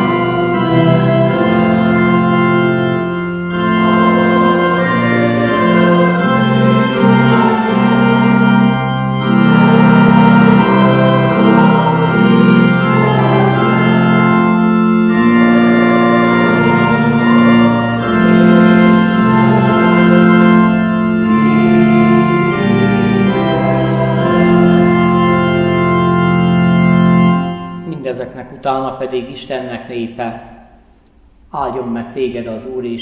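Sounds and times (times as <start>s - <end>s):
church organ playing hymn: 0.0s - 29.7s.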